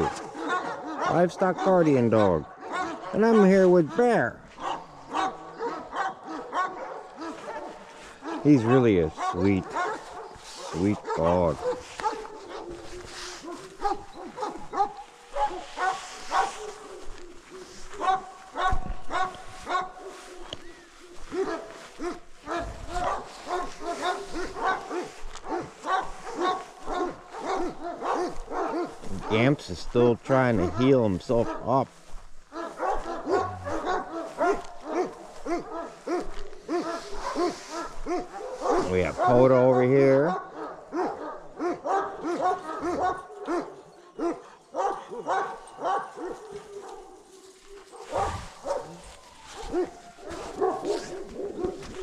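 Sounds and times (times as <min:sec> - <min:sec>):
dog barking: 0:00.0 - 0:52.0.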